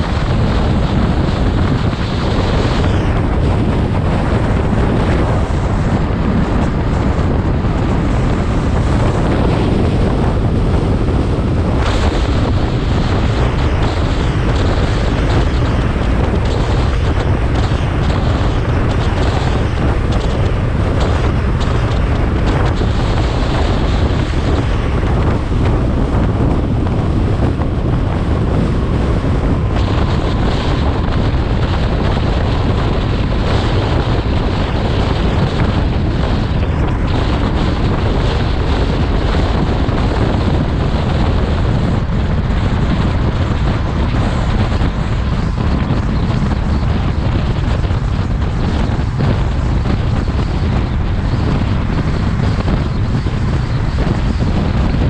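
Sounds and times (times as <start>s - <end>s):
vehicle rumble at highway speed: 0.0s - 55.0s
wind buffeting microphone: 0.0s - 55.0s.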